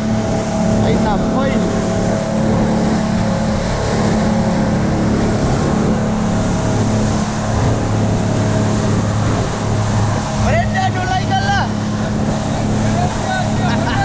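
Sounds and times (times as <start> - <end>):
motorboat engine drone: 0.0 - 14.0
water and spray rushing: 0.0 - 14.0.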